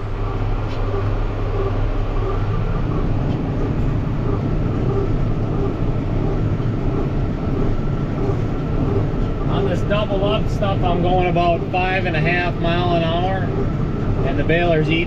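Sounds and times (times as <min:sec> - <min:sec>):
hay baler working: 0:00.0 - 0:15.0
tractor diesel engine running: 0:00.0 - 0:15.0.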